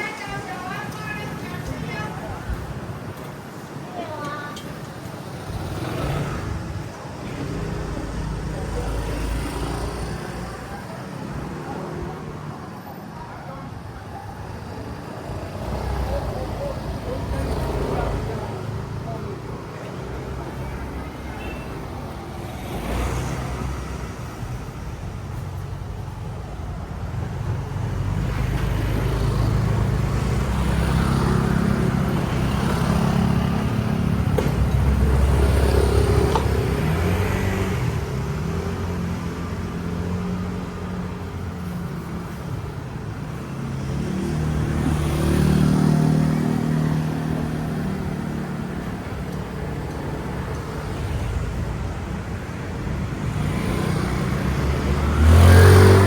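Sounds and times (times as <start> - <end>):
vehicle engines passing: 0.0 - 56.0.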